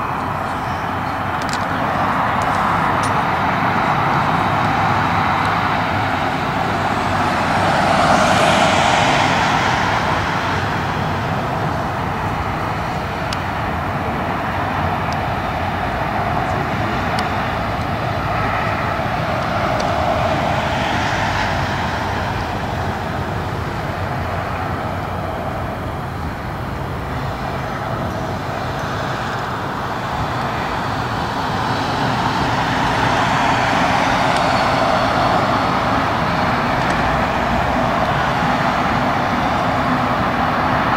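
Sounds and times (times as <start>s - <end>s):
jet engine rushing: 0.0s - 40.9s.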